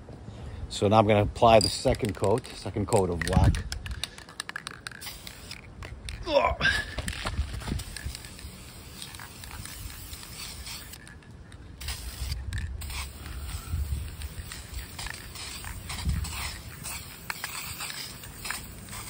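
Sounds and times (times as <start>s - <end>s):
spray paint can hissing: 1.6s - 6.2s, 7.1s - 11.2s, 11.8s - 19.0s.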